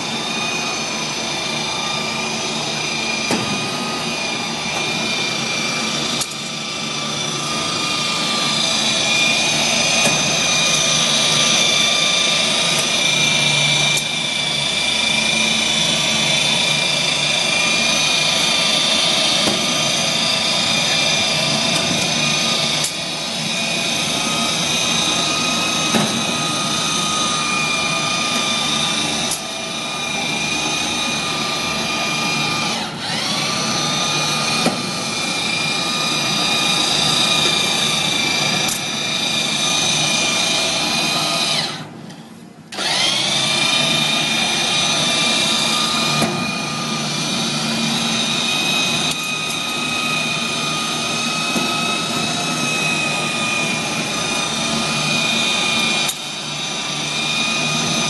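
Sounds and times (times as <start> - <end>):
seaming machine motor whine: 0.0 - 58.0.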